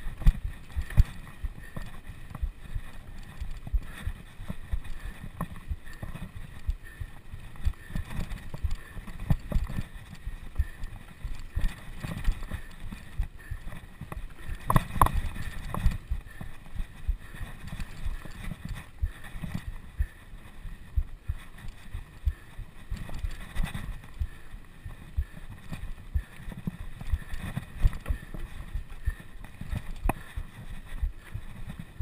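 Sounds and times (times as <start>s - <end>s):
wind and road noise: 0.0s - 32.0s.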